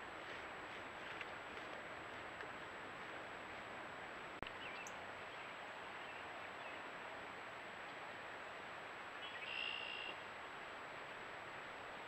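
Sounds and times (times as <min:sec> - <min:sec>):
microphone hiss: 0:00.0 - 0:12.0
outdoor ambience: 0:00.0 - 0:12.0.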